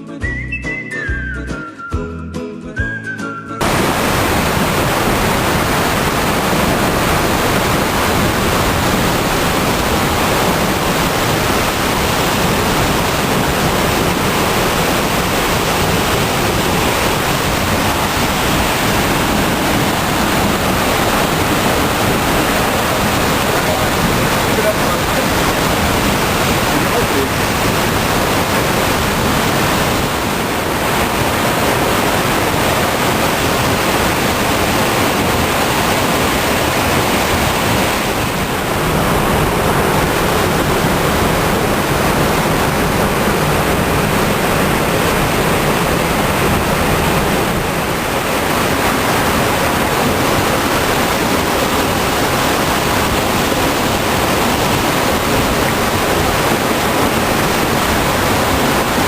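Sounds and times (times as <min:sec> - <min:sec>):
waterfall roaring: 0:03.6 - 0:59.0.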